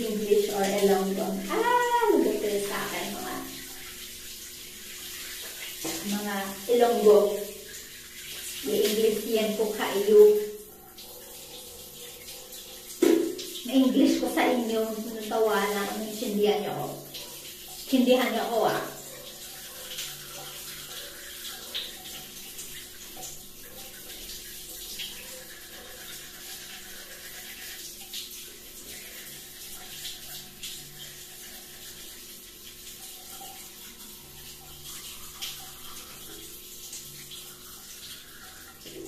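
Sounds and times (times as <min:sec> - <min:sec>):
shower water pattering: 0:00.0 - 0:39.0.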